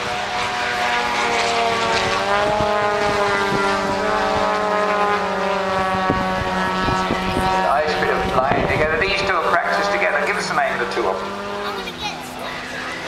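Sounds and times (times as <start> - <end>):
model aircraft engine running: 0.0 - 13.0.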